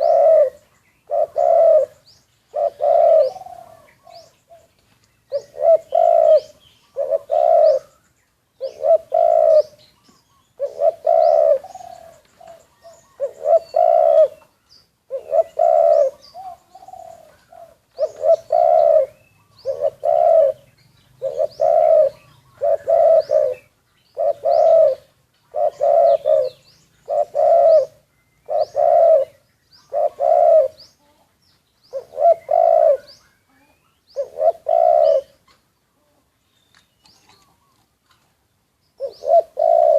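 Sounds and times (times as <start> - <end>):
dove cooing: 0.0 - 4.7, 5.3 - 8.0, 8.6 - 31.3, 31.9 - 36.3, 39.0 - 39.9
faint high bird chirps: 0.0 - 38.0.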